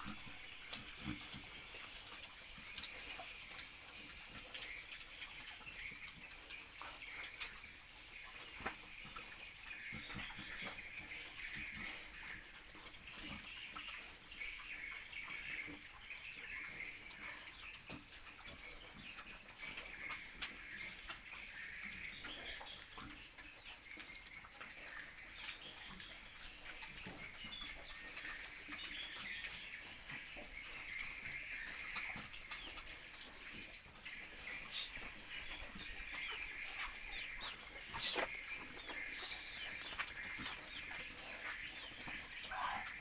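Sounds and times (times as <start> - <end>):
pig chewing and slurping: 0.0 - 43.0.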